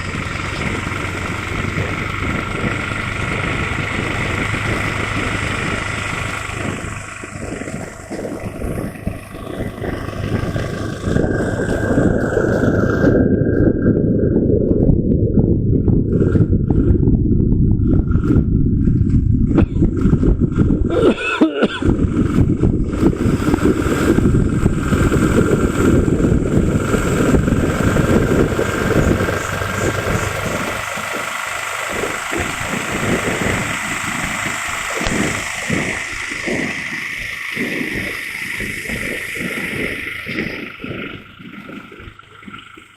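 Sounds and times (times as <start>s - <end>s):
motorcycle engine: 0.0s - 42.9s
steady high whine: 0.0s - 42.9s
wind noise: 0.0s - 42.9s.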